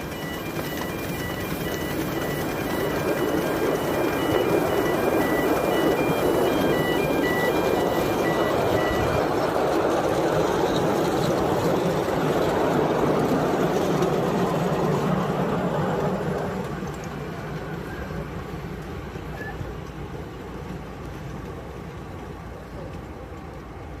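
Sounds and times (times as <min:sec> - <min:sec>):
model steam locomotive running: 0:00.0 - 0:24.0.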